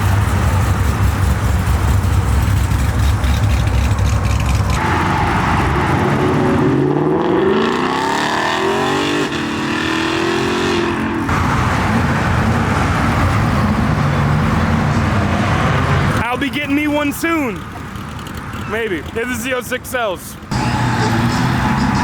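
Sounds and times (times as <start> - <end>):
car engine accelerating: 0.0 - 16.2, 20.5 - 22.0.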